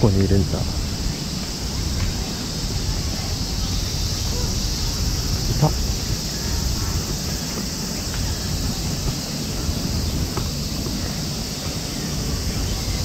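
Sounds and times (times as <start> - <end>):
high insect drone: 0.0 - 13.0
wind rumbling on microphone: 0.0 - 13.0.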